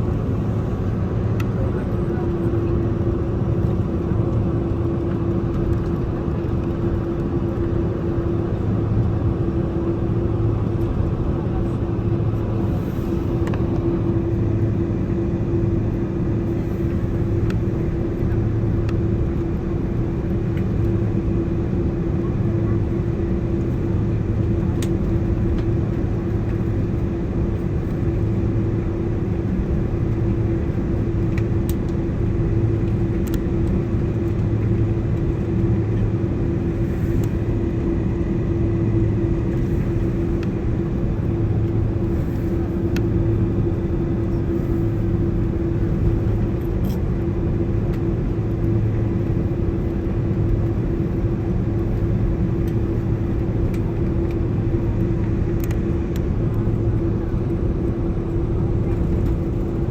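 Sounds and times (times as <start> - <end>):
airliner cabin jet engine rumble: 0.0 - 59.9.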